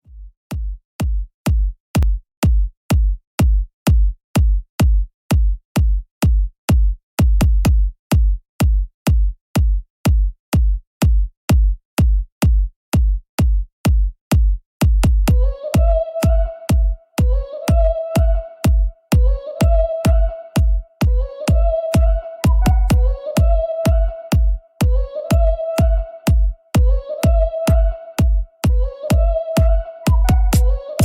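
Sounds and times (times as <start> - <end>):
drum machine kick drum: 0.0 - 31.0.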